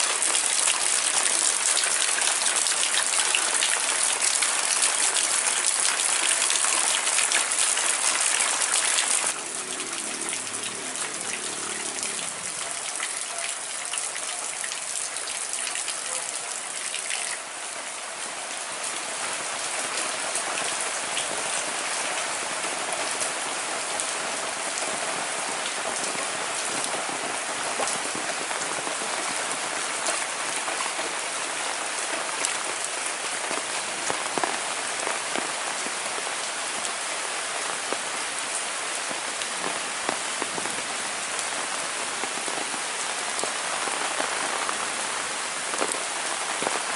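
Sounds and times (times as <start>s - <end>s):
heavy rain on roofs: 0.0s - 46.9s.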